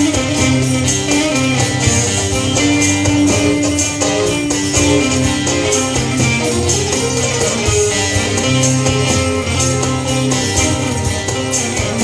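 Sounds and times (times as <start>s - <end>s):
long-necked lute playing: 0.0s - 12.0s
steady percussion beat: 0.0s - 12.0s
sustained bass notes: 0.0s - 12.0s.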